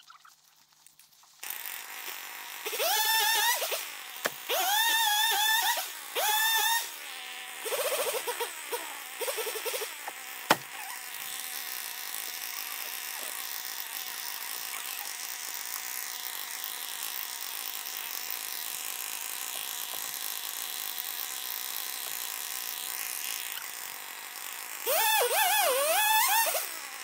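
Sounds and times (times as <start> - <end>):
chainsaw engine running: 1.4 - 27.0.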